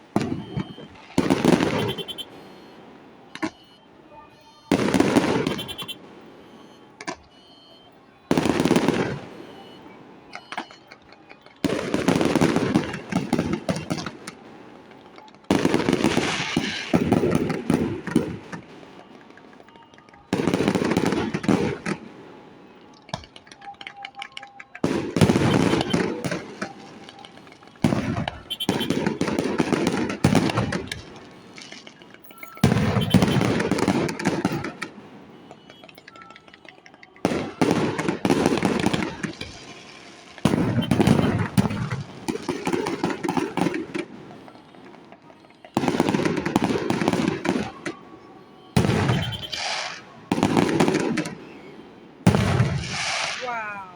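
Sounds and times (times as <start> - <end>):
fireworks banging: 0.0 - 53.9
fireworks crackling: 0.0 - 53.9.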